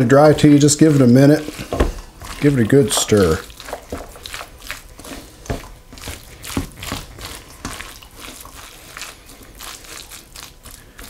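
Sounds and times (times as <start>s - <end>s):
spatula squishing and scraping in bowl: 0.0s - 11.0s.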